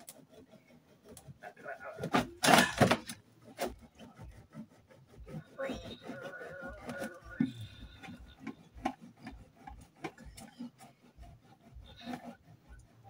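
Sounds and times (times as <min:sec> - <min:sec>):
knife scraping through plastic: 0:00.0 - 0:13.0.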